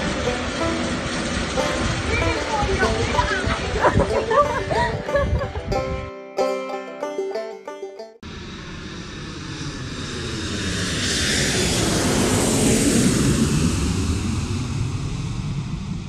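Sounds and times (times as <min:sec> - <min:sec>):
jet airliner flyby: 0:00.0 - 0:05.3, 0:08.2 - 0:16.0.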